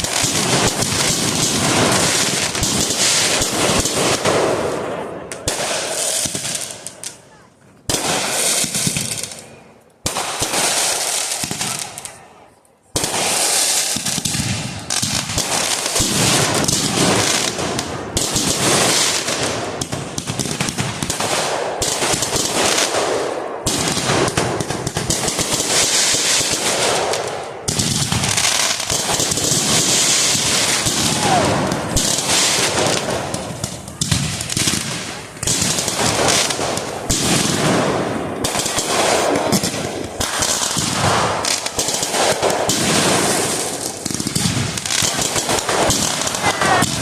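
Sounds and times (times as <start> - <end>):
fireworks crackling and popping: 0.0 - 47.0.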